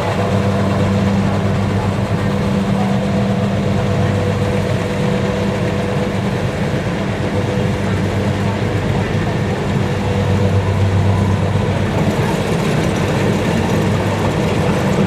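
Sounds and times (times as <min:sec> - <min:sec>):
diesel engine droning: 0:00.0 - 0:15.0
faint steady whine: 0:00.0 - 0:15.0.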